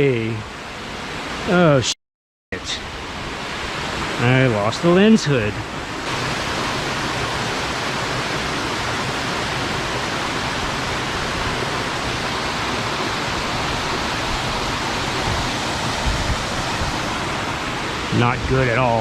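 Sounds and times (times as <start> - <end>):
waterfall rushing: 2.6 - 19.0.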